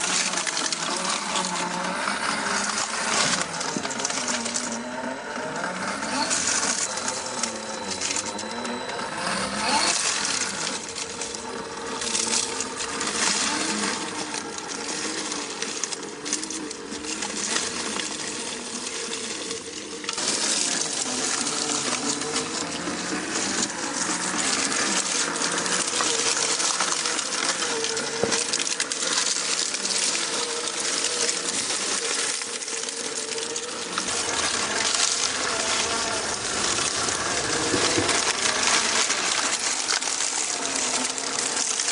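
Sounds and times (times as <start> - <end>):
electric motor and drivetrain whining: 0.0 - 41.9.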